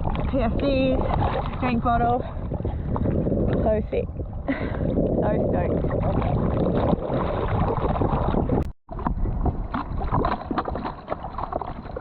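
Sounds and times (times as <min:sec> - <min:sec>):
water splashing: 0:00.0 - 0:12.0
wind rumbling on microphone: 0:00.0 - 0:12.0.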